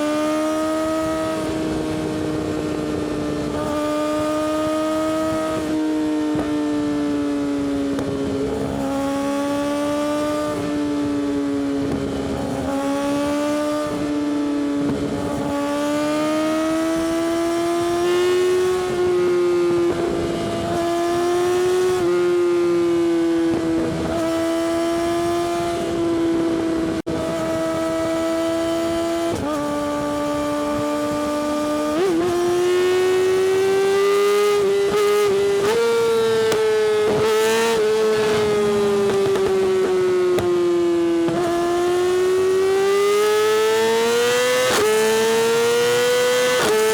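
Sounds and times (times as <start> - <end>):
motorcycle engine at high revs: 0.0 - 46.9.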